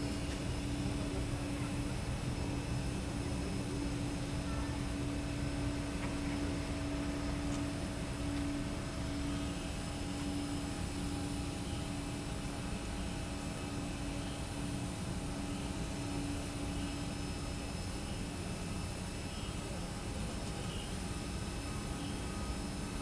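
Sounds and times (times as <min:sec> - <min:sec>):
airplane drone: 0:00.0 - 0:23.0.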